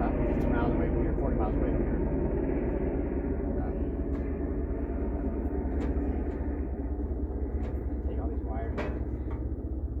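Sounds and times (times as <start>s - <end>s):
helicopter rumble overhead: 0.0s - 10.0s.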